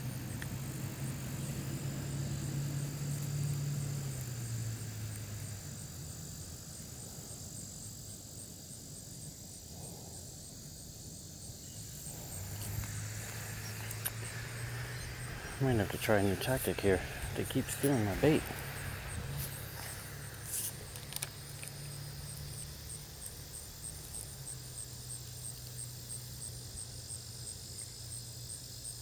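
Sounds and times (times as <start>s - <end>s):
distant motor droning: 0.0s - 8.3s, 11.6s - 27.5s
insects chirping: 0.0s - 29.0s.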